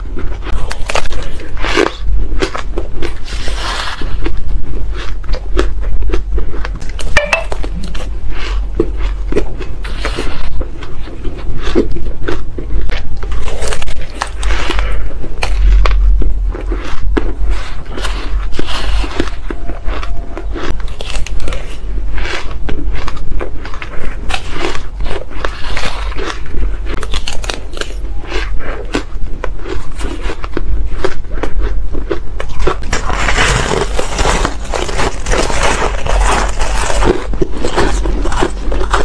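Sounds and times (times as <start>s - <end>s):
chewing shaved ice: 0.0s - 39.0s.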